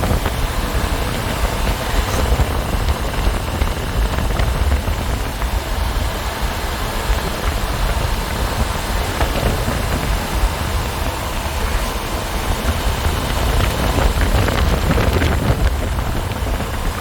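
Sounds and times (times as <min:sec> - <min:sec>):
motorcycle road noise: 0:00.0 - 0:17.0
wind buffeting microphone: 0:00.0 - 0:17.0
wind rush: 0:00.0 - 0:17.0.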